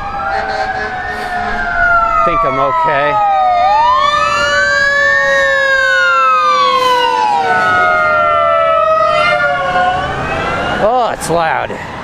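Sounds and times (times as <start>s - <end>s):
fire truck sirens wailing: 0.0s - 12.0s.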